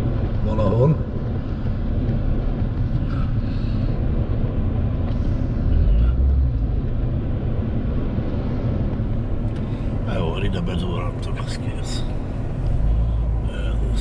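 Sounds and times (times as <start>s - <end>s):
car cabin engine and tyre rumble: 0.0s - 14.0s.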